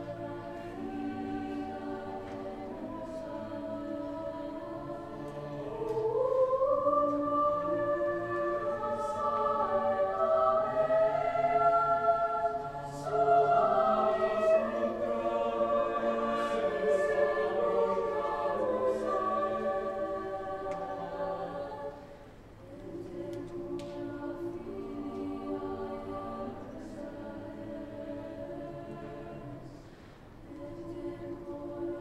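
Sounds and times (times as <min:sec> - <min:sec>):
choir singing a cappella: 0:00.0 - 0:32.0.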